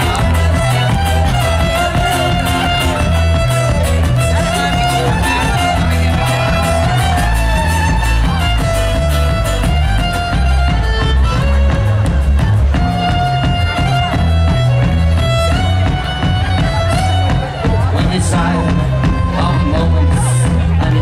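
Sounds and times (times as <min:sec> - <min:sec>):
fiddle melody: 0:00.0 - 0:21.0
folk-rock band playing: 0:00.0 - 0:21.0
steady drum beat: 0:00.0 - 0:21.0.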